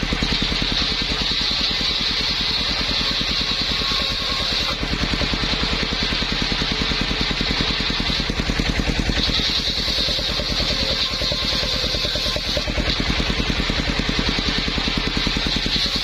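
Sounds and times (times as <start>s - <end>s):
circular saw engine running: 0.0s - 16.0s
hissing whine: 0.0s - 16.0s.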